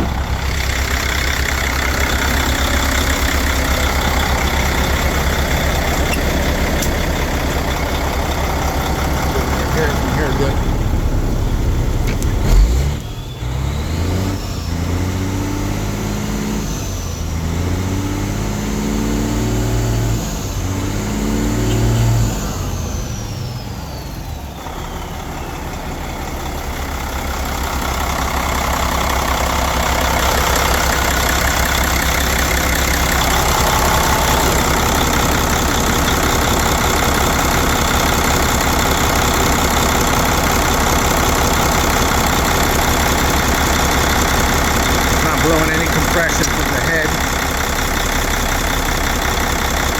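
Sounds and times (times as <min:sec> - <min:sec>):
diesel engine revving: 0:00.0 - 0:49.9
high turbo whine: 0:00.0 - 0:49.9.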